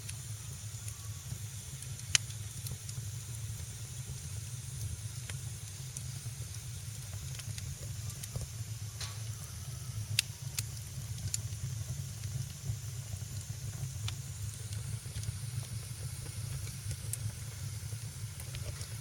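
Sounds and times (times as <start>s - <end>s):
sharp pops from fire: 0.0s - 19.0s
wood fire crackling: 0.0s - 19.0s.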